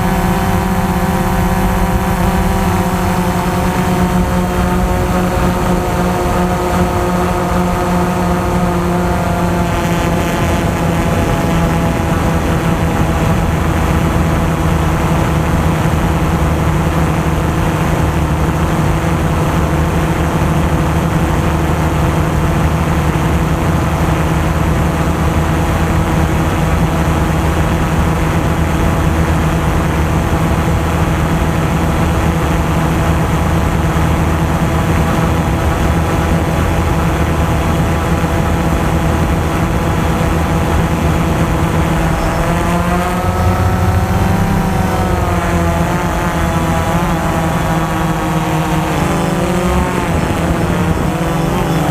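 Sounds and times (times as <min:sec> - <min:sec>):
drone propellers droning: 0:00.0 - 0:51.9.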